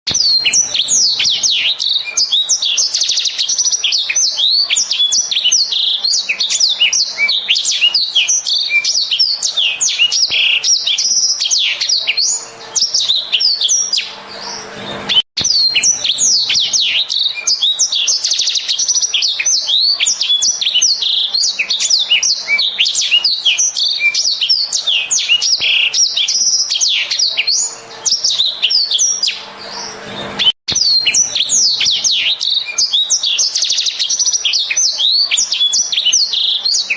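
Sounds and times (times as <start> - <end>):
canary singing: 0.1 - 36.9.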